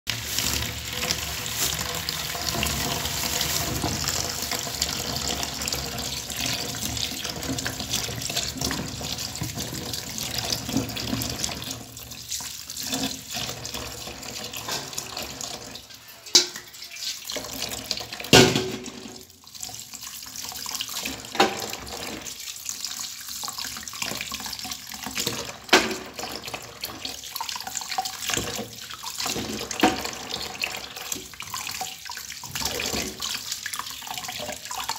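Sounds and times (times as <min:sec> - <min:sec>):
tap water running into bowl: 0:00.1 - 0:34.9.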